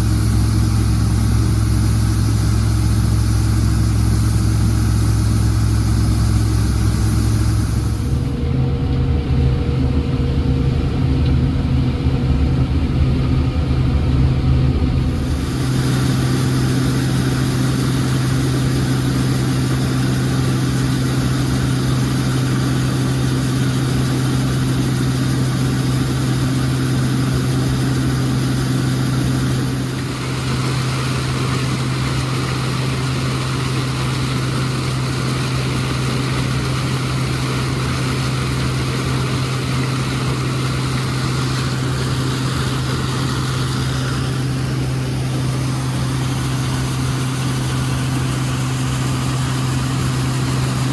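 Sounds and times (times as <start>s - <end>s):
combine harvester engine hum: 0.0s - 50.9s
machinery noise: 0.0s - 50.9s.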